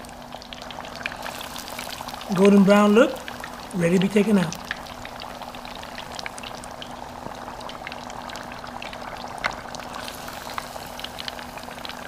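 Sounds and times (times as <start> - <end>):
deep-frying sizzle with pops: 0.0 - 12.0.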